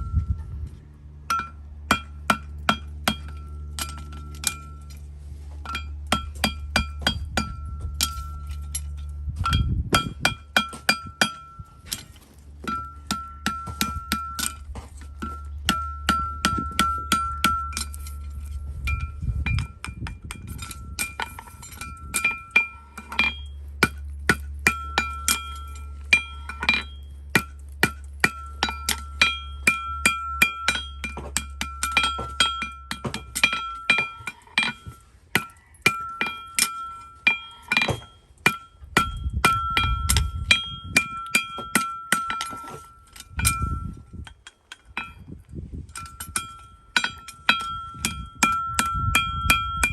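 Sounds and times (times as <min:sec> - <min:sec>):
low steady hum: 0:00.0 - 0:49.9
hammer striking steel: 0:01.2 - 0:05.0, 0:05.6 - 0:45.3, 0:45.9 - 0:49.9.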